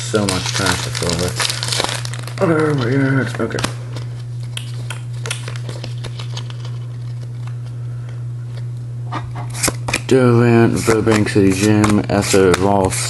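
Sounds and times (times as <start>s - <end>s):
steady low hum: 0.0s - 13.0s
cards clicking and rustling: 0.2s - 7.7s, 9.5s - 13.0s.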